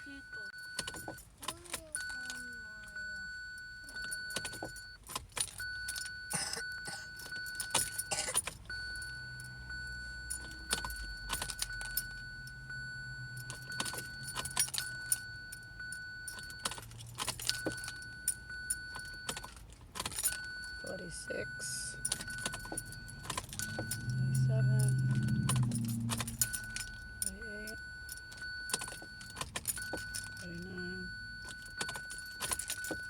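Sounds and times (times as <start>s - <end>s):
electronic warning chime: 0.0s - 1.2s, 1.8s - 5.0s, 5.6s - 33.0s
car ignition clicking: 0.0s - 33.0s
keys jangling: 0.6s - 12.5s, 13.3s - 21.0s, 21.8s - 33.0s.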